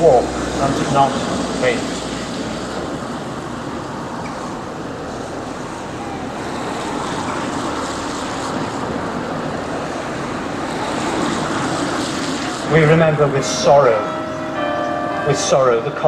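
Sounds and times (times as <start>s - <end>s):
road traffic: 0.0s - 16.0s
wind: 0.0s - 16.0s.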